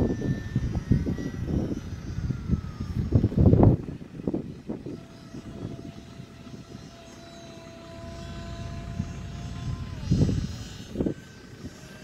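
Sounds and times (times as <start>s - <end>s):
model plane propeller whine: 0.0s - 12.0s
wind buffeting microphone: 0.0s - 12.0s.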